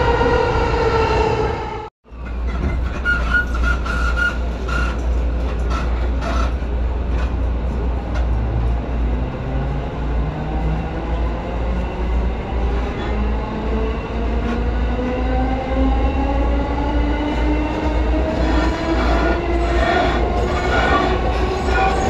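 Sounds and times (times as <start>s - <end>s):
train wheels rumbling on rail: 2.0s - 22.0s.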